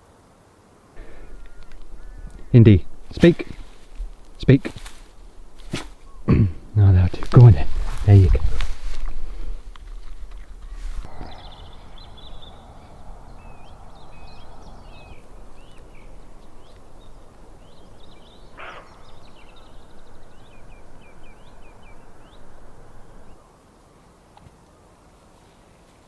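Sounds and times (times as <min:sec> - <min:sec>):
small birds chirping: 0:01.0 - 0:23.4.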